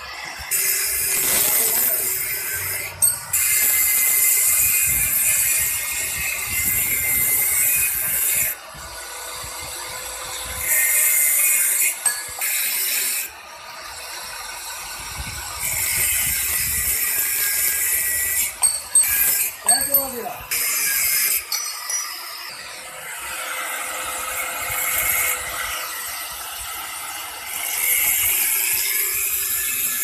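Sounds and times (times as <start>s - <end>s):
angle grinder cutting steel: 0.0s - 30.0s.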